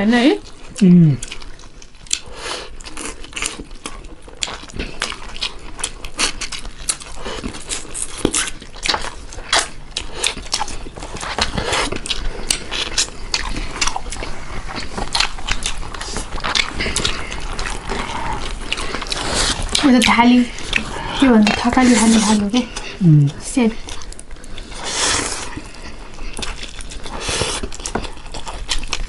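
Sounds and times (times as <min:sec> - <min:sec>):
wet chewing: 0:00.4 - 0:29.0.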